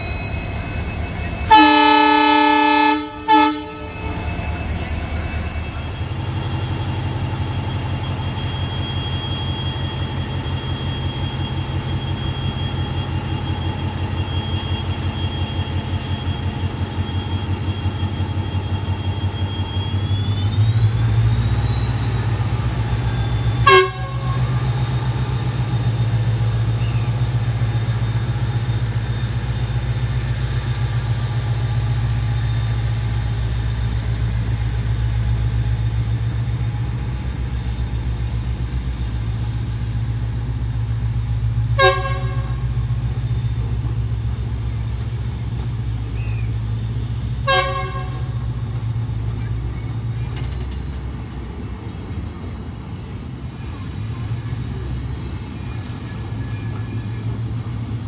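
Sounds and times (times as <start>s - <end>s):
train coaches rumbling past: 0.0s - 58.0s.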